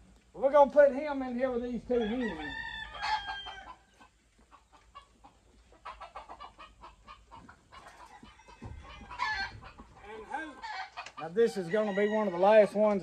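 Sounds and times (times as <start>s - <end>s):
chickens clucking: 1.4s - 13.0s.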